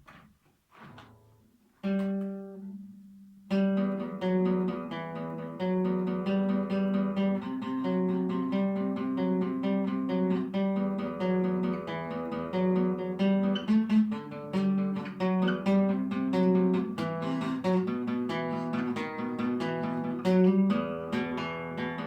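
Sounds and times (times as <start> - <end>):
acoustic guitar chords picked: 1.8 - 22.0.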